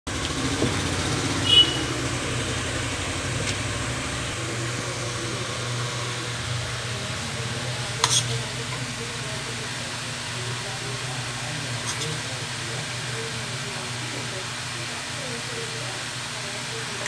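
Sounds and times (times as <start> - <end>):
low mechanical hum: 0.1 - 17.0.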